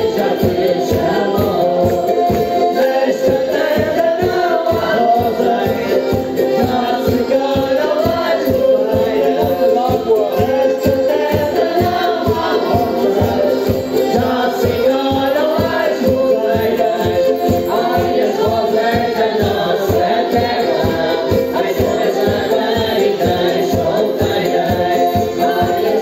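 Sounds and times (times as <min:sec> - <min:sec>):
voices singing together: 0:00.0 - 0:26.0.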